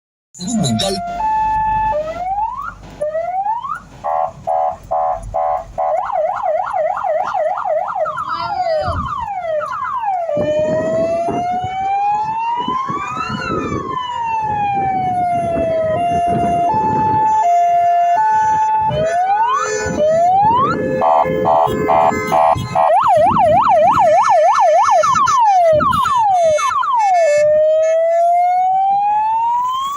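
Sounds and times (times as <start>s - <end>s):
electronic sirens: 0.4s - 29.9s.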